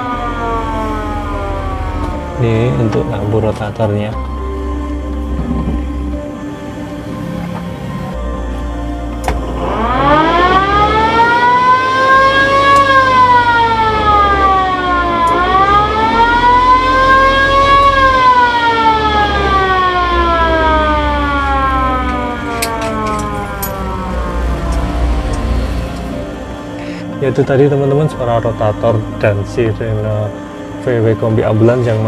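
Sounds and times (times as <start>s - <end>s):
ambulance siren wailing: 0.0s - 32.0s.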